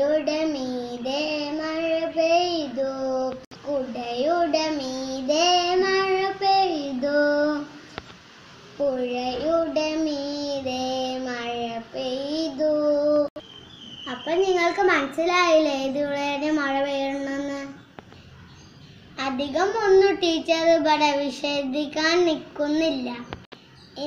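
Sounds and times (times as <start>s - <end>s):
girl singing: 0.0s - 8.0s, 8.8s - 13.4s, 14.1s - 17.9s, 19.2s - 23.4s.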